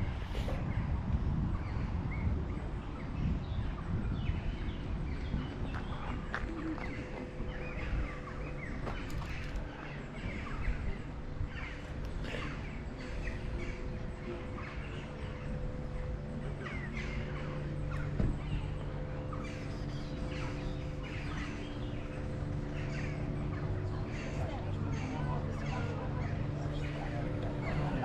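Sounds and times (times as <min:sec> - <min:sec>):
steady low hum: 0:00.0 - 0:28.0
birds chirping: 0:01.5 - 0:28.0.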